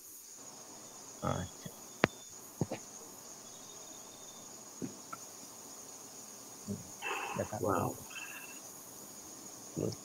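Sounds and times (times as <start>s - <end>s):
faint high-pitched chirr: 0.0s - 5.4s, 6.6s - 10.0s.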